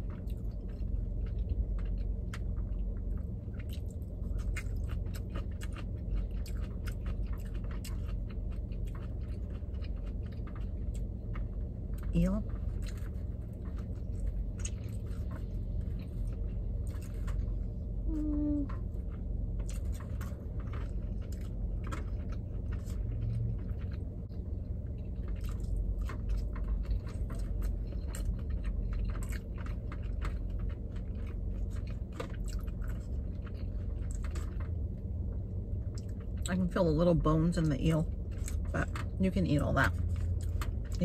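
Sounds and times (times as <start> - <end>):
wet chewing with mouth clicks: 0.0 - 36.6, 38.2 - 39.2
steady low hum: 0.0 - 41.0.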